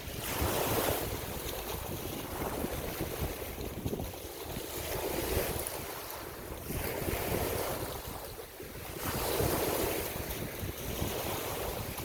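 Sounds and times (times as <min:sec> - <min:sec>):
waves washing: 0:00.0 - 0:12.0
wind buffeting microphone: 0:00.0 - 0:12.0.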